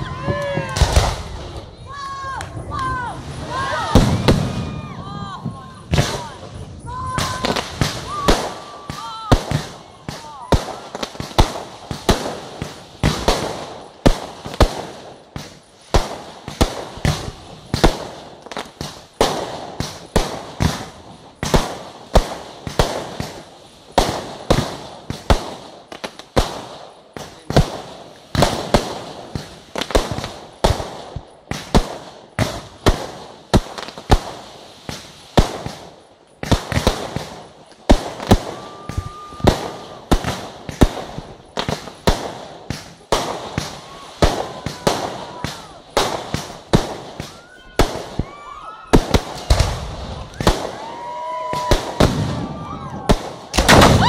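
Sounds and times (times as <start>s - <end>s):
firework shells bursting: 0.4s - 54.0s.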